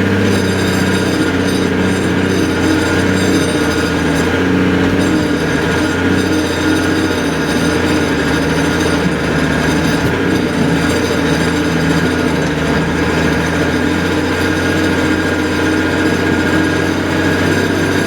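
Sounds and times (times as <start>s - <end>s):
large engine running: 0.0s - 18.0s.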